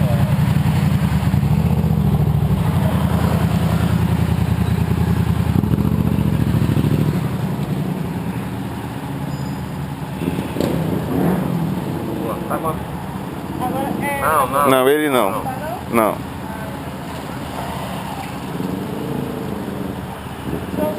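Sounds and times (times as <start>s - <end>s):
motorcycle engine rumbling: 0.0s - 20.9s.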